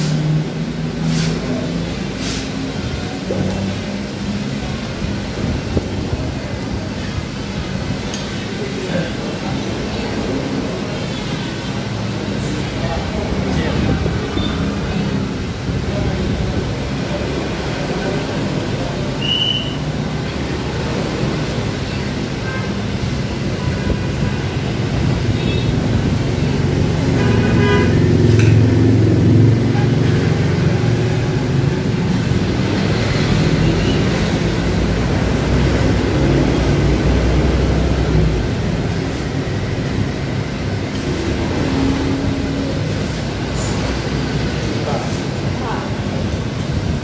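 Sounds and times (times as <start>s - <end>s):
street traffic: 0.0s - 47.0s.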